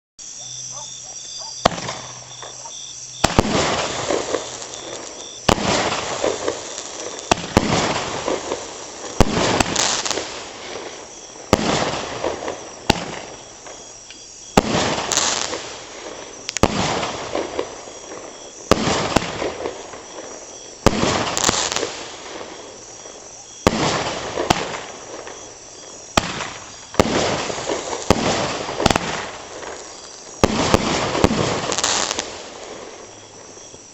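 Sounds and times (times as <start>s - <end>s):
fireworks crackling: 0.2s - 33.9s
fireworks banging: 0.4s - 33.8s.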